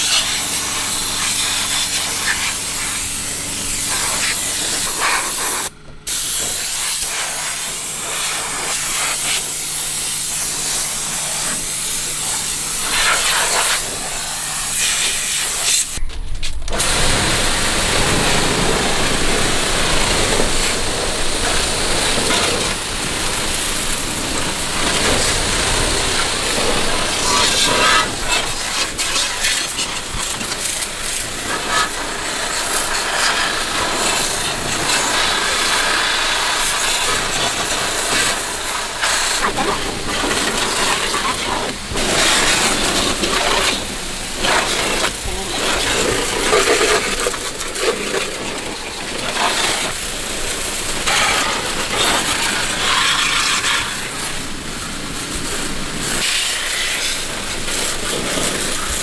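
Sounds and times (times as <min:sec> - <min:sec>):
water jet hissing and splashing: 0:00.0 - 0:16.0, 0:16.7 - 0:59.0.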